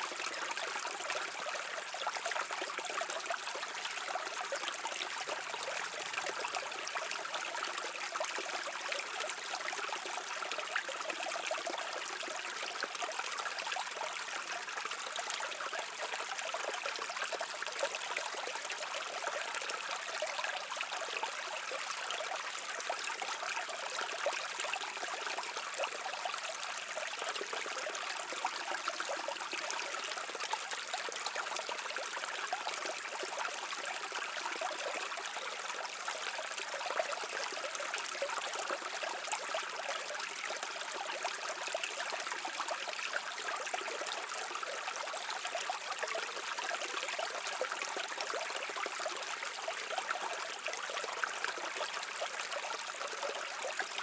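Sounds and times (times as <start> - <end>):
brook flowing over stones: 0.0 - 54.0.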